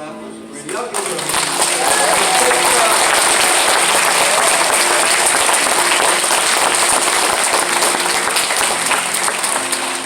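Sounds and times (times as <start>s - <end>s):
crowd applauding: 0.6s - 10.0s.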